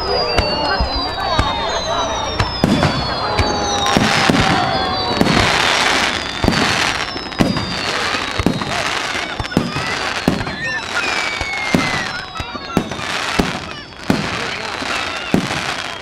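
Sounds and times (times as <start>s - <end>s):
fireworks bangs and pops: 0.0s - 16.0s
fireworks whistles falling in pitch: 0.0s - 16.0s
fireworks crackling hiss: 0.3s - 16.0s.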